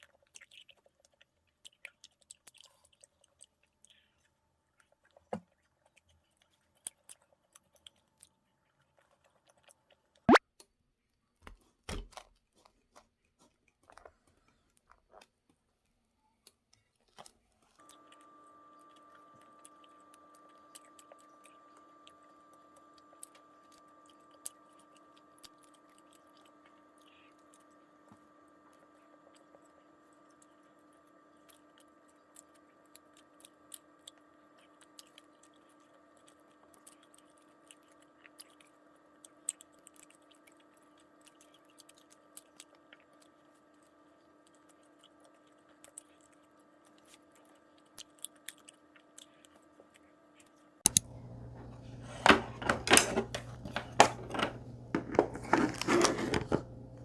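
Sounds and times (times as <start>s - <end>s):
soft eating crunches: 0.0s - 10.4s, 11.0s - 52.6s, 53.3s - 57.0s.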